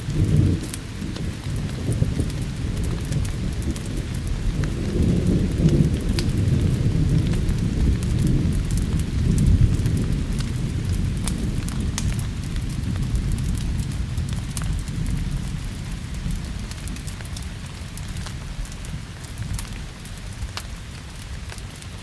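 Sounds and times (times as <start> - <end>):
low rolling thunder: 0.0 - 20.5
steady rain: 0.0 - 22.0
wood fire crackling: 0.0 - 22.0.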